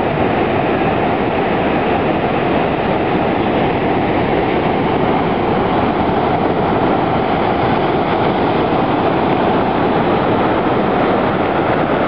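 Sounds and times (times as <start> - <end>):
heavy surf on rocks: 0.0 - 12.0.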